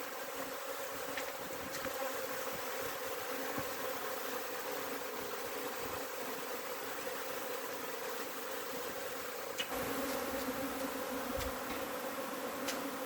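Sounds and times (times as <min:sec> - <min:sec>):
bee swarm buzzing: 0:00.0 - 0:13.0.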